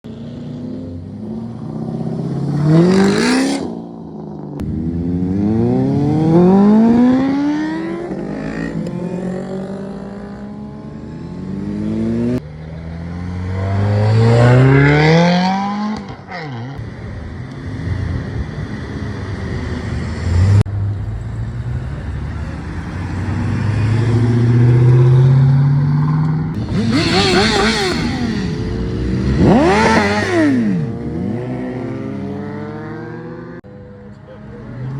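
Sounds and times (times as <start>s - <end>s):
car engines accelerating hard: 4.6s - 33.7s.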